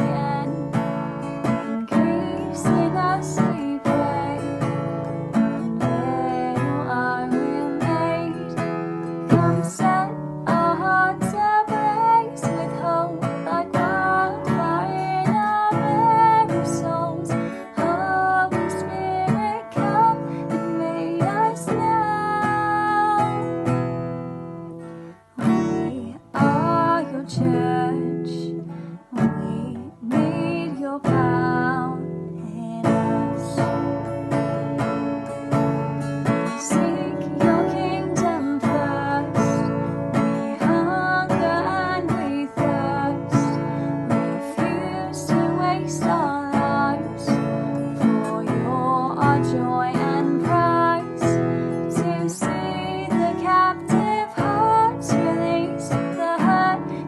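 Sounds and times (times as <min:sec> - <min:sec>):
strummed acoustic guitar worship song: 0:00.0 - 0:57.0.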